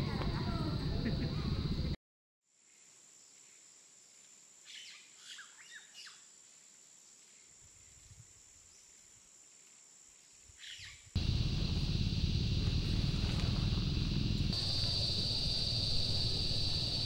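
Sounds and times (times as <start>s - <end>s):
high-pitched insect hum: 2.7s - 17.0s.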